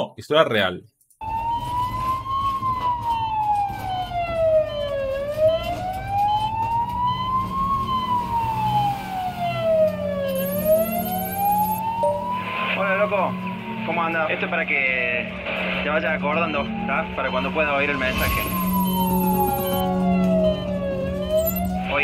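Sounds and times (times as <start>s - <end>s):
emergency vehicle siren wailing: 1.2s - 22.0s.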